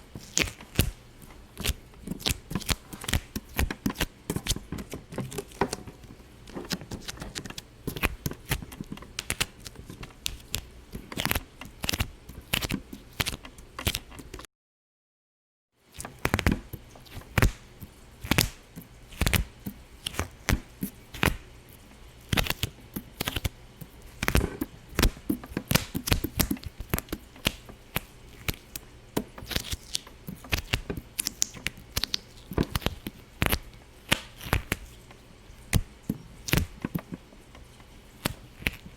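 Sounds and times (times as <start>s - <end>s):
irregular popping and clicking: 0.2s - 14.5s, 16.0s - 38.9s.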